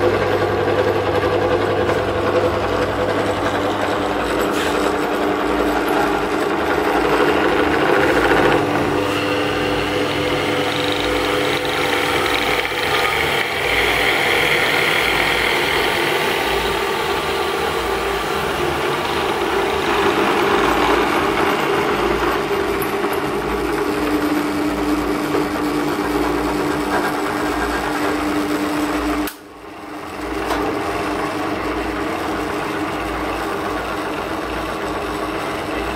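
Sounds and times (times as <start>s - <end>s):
drill press motor whirring: 0.0s - 35.9s.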